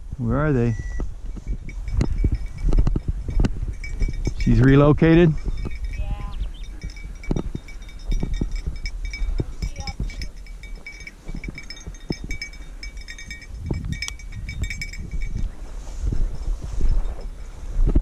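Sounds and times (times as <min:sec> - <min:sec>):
wind rumble: 0:00.0 - 0:18.0
low thumps: 0:00.9 - 0:18.0
dog collar bell jingling: 0:01.2 - 0:17.9.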